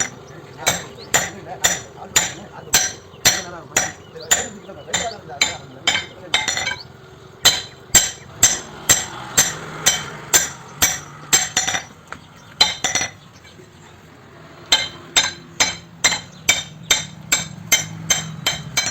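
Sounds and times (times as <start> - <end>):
hammer ringing on hot steel: 0.0 - 12.0, 14.7 - 18.9.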